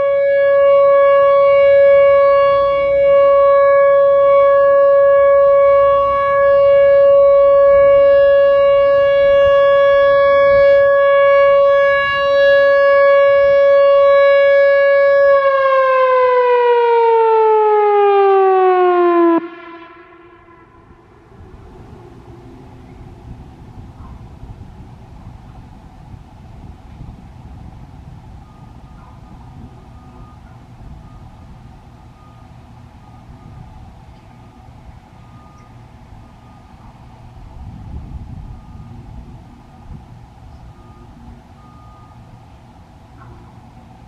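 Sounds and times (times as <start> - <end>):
warning siren winding down: 0.0 - 25.6, 27.4 - 44.0.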